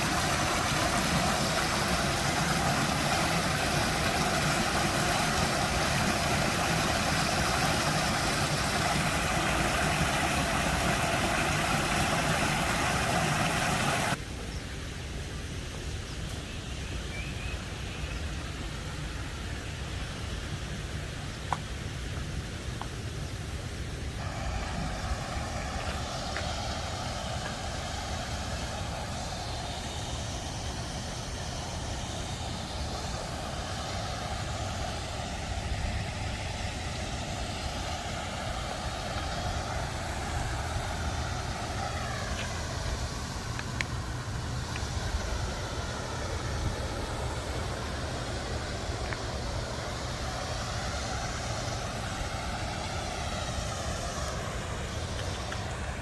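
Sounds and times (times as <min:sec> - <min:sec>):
garden waterfall rushing: 0:00.0 - 0:56.0.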